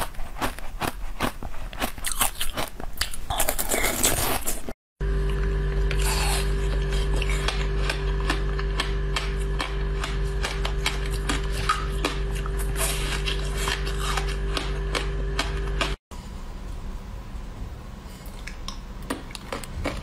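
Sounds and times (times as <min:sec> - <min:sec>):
crunching and chewing ice: 0:00.0 - 0:16.0, 0:19.2 - 0:20.0
steady low hum: 0:00.0 - 0:20.0.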